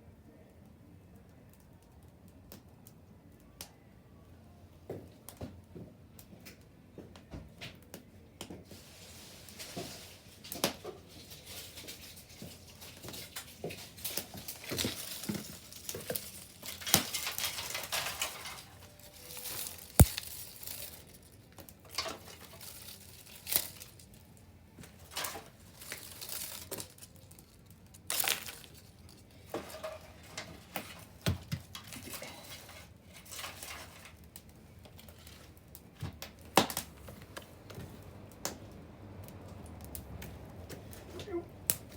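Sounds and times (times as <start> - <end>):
bonfire crackling: 7.9 - 41.9.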